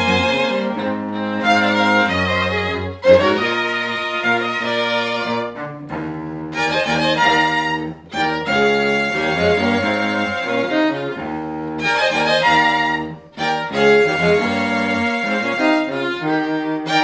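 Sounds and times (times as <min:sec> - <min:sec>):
string ensemble bowed chords: 0:00.0 - 0:17.0.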